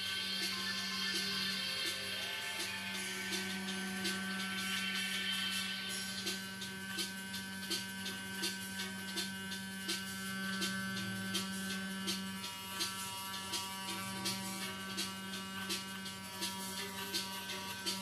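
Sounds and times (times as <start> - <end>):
electric dog clippers buzzing: 0.0 - 18.0
regular ticking beat: 0.4 - 18.0.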